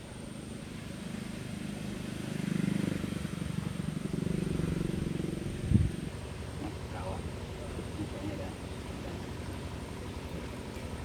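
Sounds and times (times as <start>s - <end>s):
distant small engine humming: 0.0s - 11.0s.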